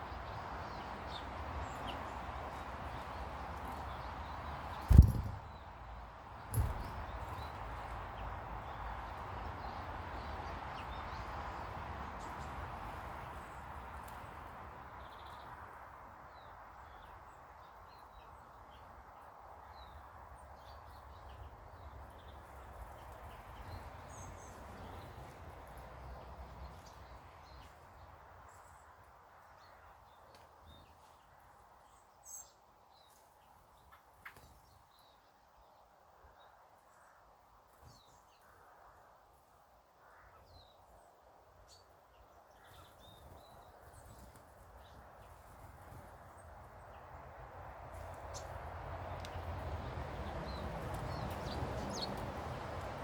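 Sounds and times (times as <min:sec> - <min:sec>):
small birds chirping: 0:00.0 - 0:38.8, 0:39.4 - 0:47.2, 0:47.9 - 0:53.0
outdoor background rush: 0:00.0 - 0:53.0.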